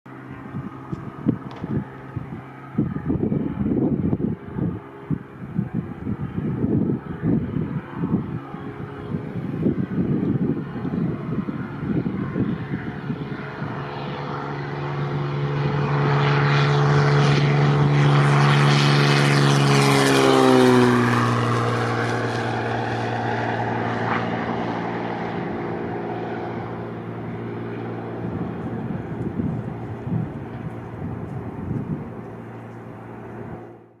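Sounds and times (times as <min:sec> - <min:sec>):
propeller plane engine drone: 0:00.1 - 0:34.0.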